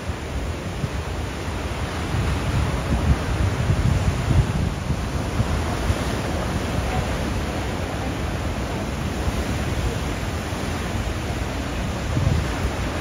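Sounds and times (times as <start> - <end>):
surf breaking on stony shore: 0.0 - 13.0
wind rumbling on microphone: 0.0 - 13.0.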